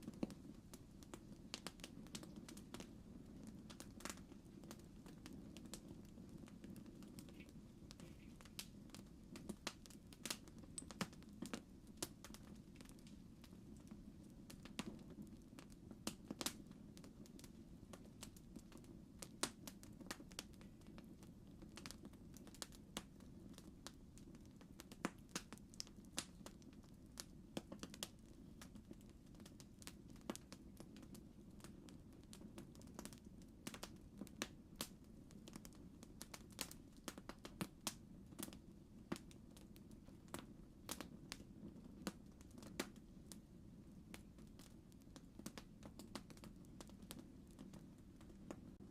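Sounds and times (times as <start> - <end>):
campfire crackling: 0.0 - 48.9.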